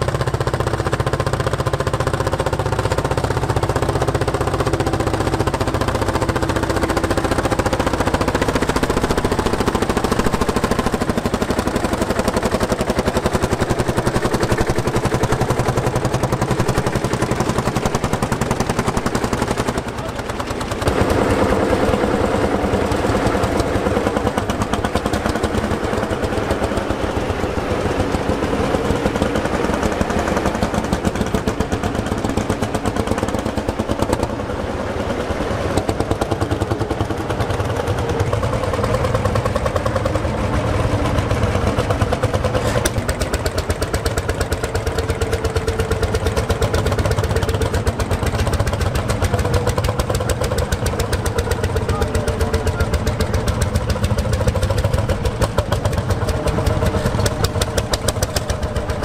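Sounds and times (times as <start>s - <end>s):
vintage tractor engines running: 0.0s - 59.0s.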